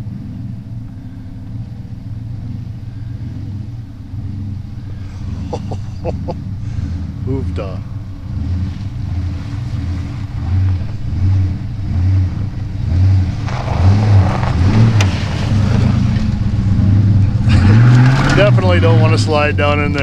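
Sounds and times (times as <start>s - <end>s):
pickup engine rumble: 0.0s - 20.0s
tyres rushing through mud: 2.2s - 20.0s.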